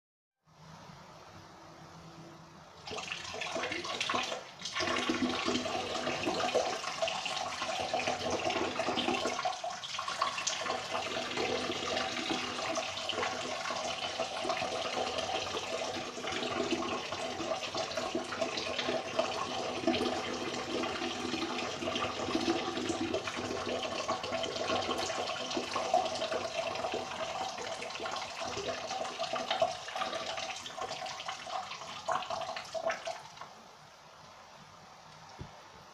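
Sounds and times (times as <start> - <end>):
person urinating into toilet: 2.8 - 33.6.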